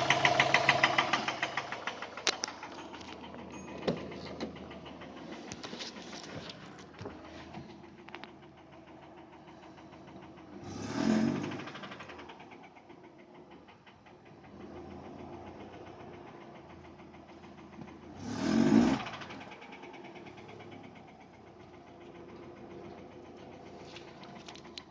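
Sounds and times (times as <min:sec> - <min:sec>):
car engine idling with knock: 0:00.0 - 0:24.9
engine revving: 0:00.0 - 0:24.9.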